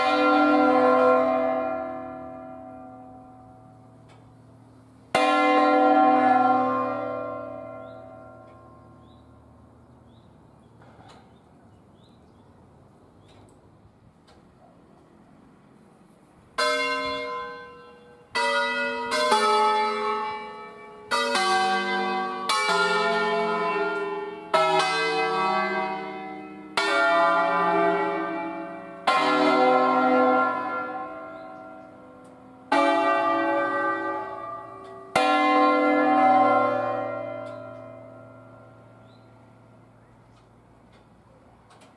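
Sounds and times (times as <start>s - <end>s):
church bells ringing: 0.0s - 9.8s, 16.5s - 41.2s.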